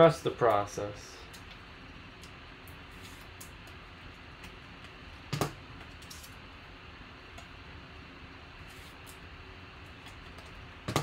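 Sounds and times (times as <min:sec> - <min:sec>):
steady low hiss: 0:00.0 - 0:10.9.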